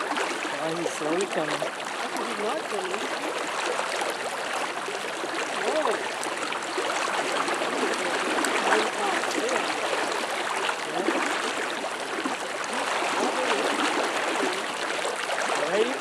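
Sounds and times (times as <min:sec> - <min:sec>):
fast-flowing river water rushing: 0:00.0 - 0:16.0.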